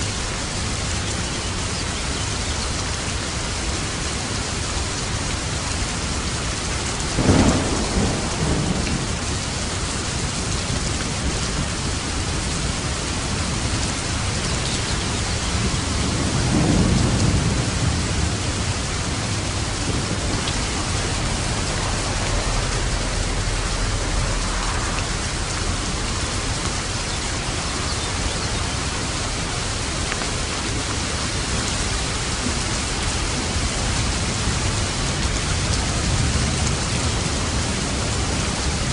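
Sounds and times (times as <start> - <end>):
heavy rain: 0.0 - 38.9
thunder crack and rumble: 5.8 - 38.9.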